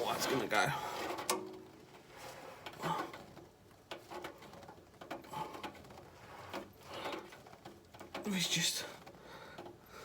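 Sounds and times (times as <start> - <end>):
gloved hands turning oil filter: 0.0 - 10.0.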